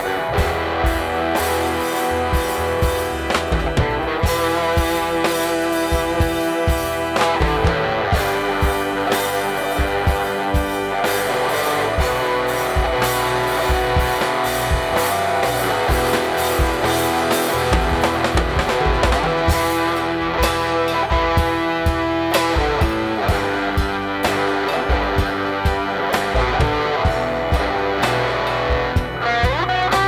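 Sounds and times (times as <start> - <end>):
rock band playing live: 0.0 - 30.0.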